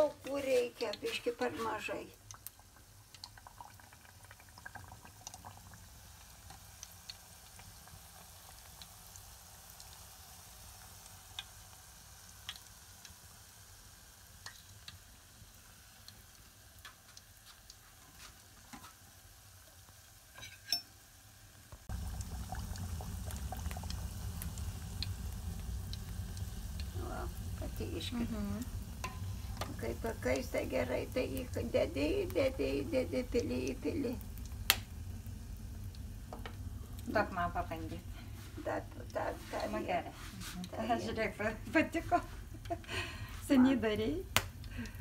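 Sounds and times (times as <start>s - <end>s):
batter sizzling in hot lard: 0.0s - 45.0s.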